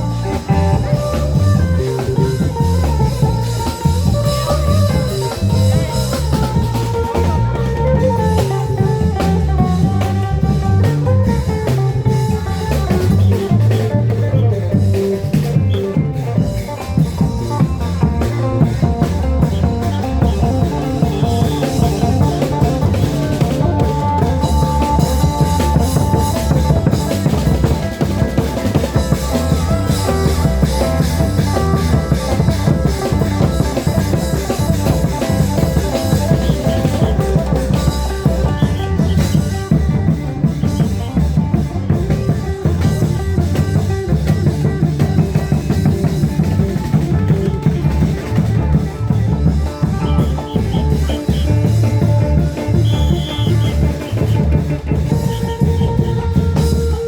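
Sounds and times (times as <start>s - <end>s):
drums playing a driving rhythm: 0.0s - 57.0s
sustained melody line: 0.0s - 57.0s.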